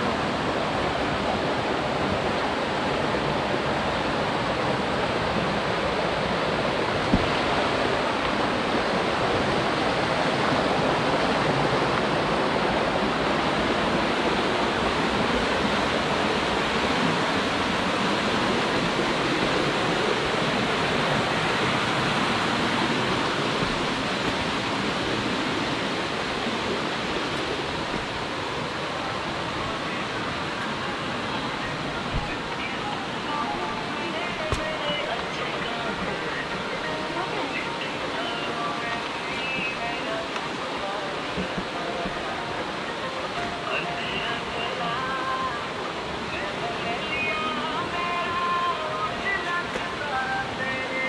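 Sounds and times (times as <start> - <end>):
flowing water rushing: 0.0 - 51.0.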